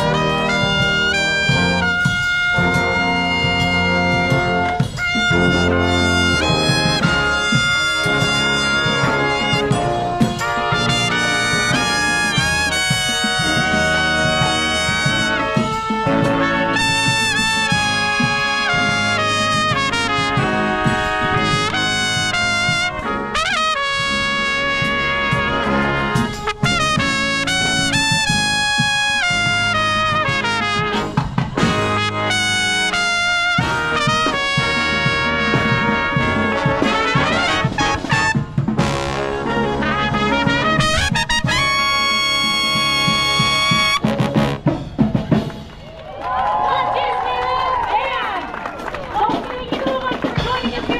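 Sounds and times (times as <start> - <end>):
brass marching band playing: 0.0 - 50.9.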